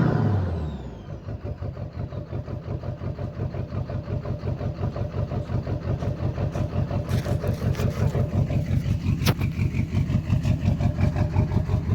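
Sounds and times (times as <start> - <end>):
diesel engine idling with pulsing beat: 1.2 - 11.9.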